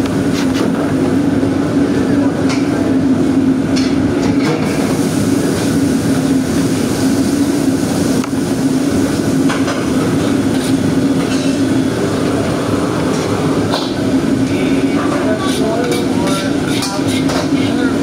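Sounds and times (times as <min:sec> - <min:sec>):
burner and exhaust hood rushing: 0:00.0 - 0:18.0.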